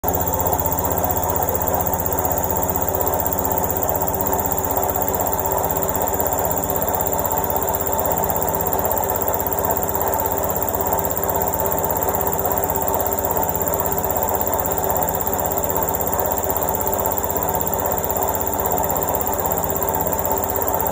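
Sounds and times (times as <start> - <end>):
washing machine spinning: 0.0 - 20.9.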